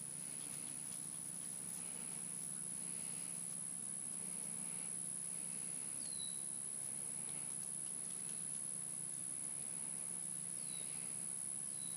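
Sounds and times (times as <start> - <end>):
steady high hiss: 0.0 - 11.9.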